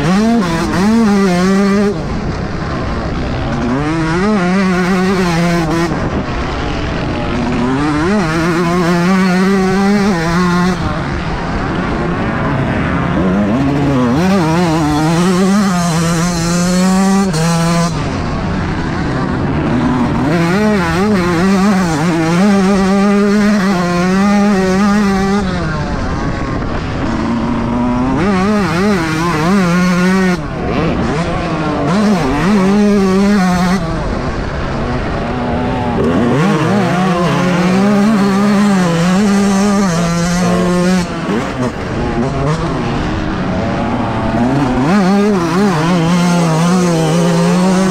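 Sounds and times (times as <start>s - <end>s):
two-stroke engine revving hard: 0.0s - 47.9s.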